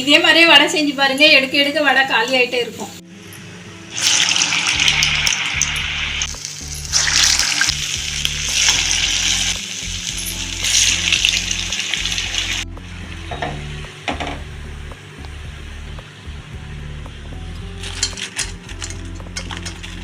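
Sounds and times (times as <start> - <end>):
soft background music: 0.0 - 20.0
deep-frying sizzle: 3.3 - 20.0.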